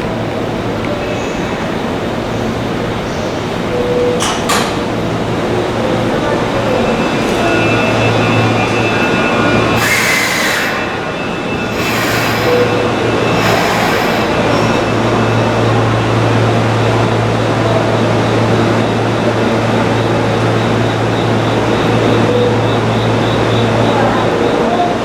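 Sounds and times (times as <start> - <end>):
electric train humming: 0.0 - 25.0.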